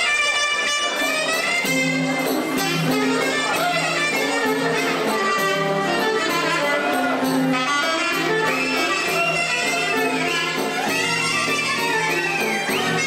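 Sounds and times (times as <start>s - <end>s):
clarinet: 0.0s - 13.0s
folk dance music: 0.0s - 13.0s
violin: 0.0s - 13.0s.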